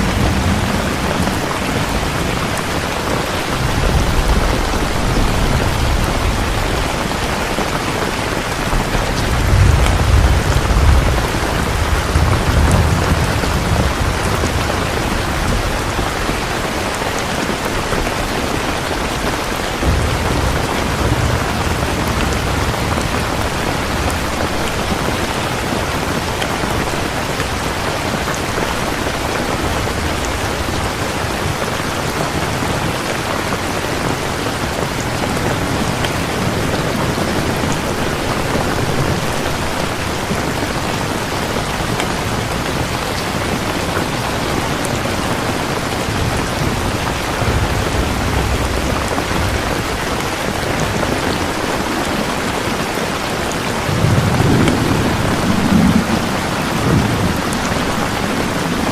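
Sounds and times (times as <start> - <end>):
heavy rain hissing: 0.0 - 58.9
thunder rumbling: 0.0 - 58.9.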